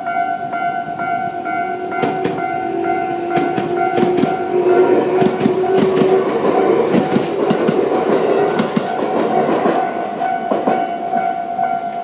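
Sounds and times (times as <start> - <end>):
level crossing warning bell: 0.0 - 7.4, 8.0 - 12.0
train clattering past: 0.0 - 12.0
wheels clicking over rail joints: 1.3 - 12.0.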